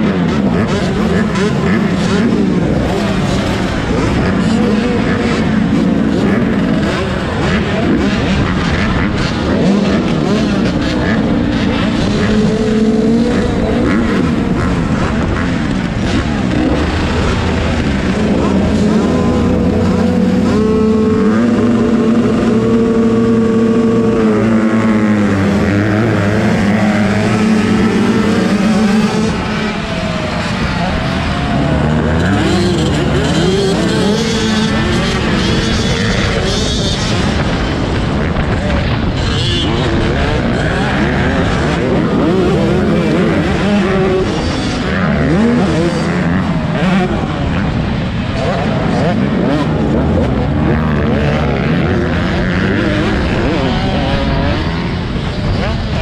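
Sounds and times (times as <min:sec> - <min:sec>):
motocross bike engines running: 0:00.0 - 0:56.0.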